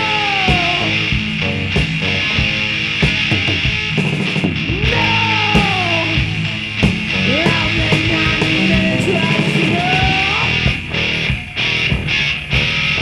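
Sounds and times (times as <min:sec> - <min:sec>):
rock band playing: 0:00.0 - 0:13.0
sliding guitar lead line: 0:00.0 - 0:13.0.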